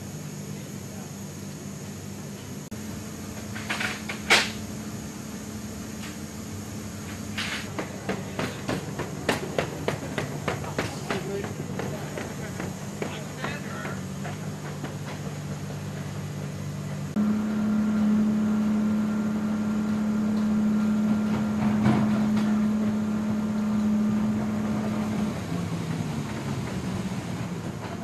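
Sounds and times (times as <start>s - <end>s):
machinery hum: 0.0s - 28.0s.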